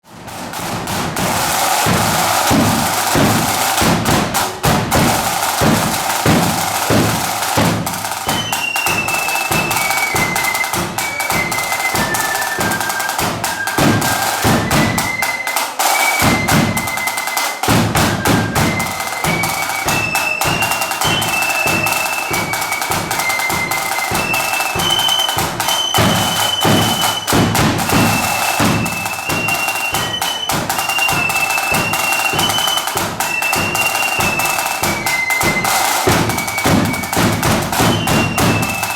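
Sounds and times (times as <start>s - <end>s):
snare drum: 0.0s - 38.9s
flutes playing high melody: 1.2s - 38.9s.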